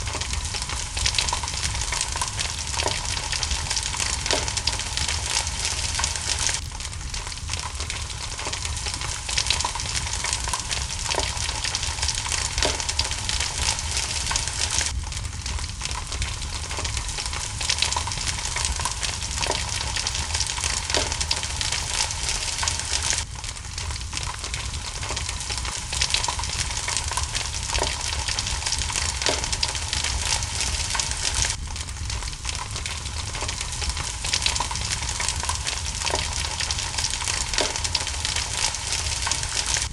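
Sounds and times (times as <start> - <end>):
rain hiss: 0.0 - 39.9
wood fire crackling and popping: 0.0 - 39.9.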